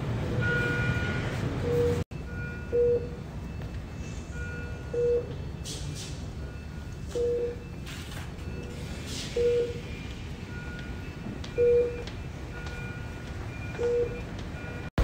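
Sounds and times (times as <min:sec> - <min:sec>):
mid-pitched electronic beep: 0:00.4 - 0:05.7, 0:06.3 - 0:14.9.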